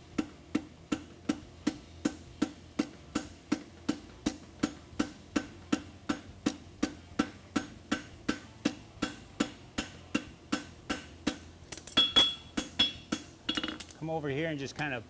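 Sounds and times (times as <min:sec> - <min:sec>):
hammer striking horseshoe on anvil: 0:00.2 - 0:14.0.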